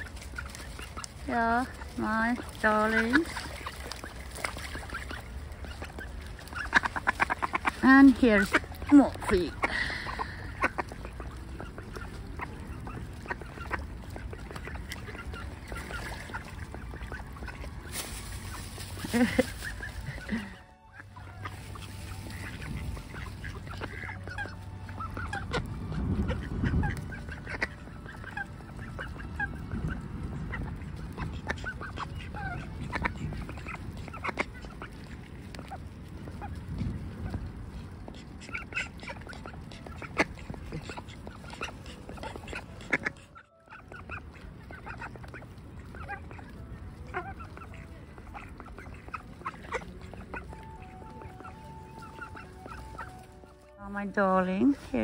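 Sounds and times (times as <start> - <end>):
ducks quacking and honking: 0.0 - 55.0.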